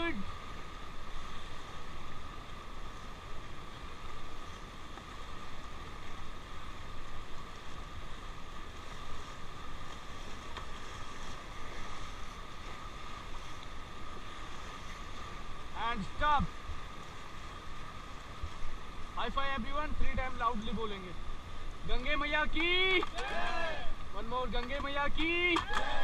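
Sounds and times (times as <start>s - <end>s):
river water rushing and splashing: 0.0s - 26.0s.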